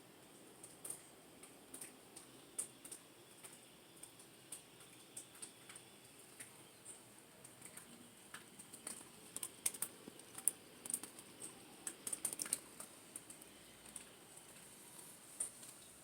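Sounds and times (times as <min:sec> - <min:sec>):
small hard parts clicking and tapping: 0:00.6 - 0:14.6.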